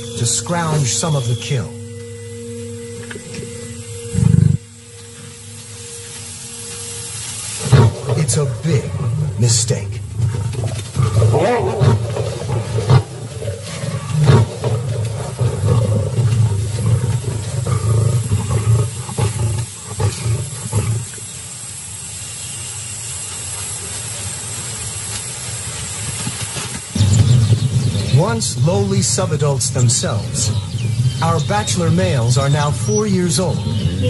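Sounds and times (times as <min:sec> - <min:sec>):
lions snarling and growling: 0:00.0 - 0:21.5, 0:26.0 - 0:34.0
steady background noise: 0:00.0 - 0:34.0.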